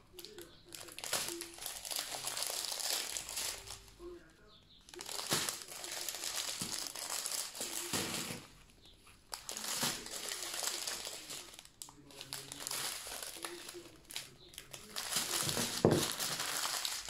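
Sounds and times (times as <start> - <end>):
plastic sachets crinkling: 0.0 - 4.2, 4.8 - 17.0.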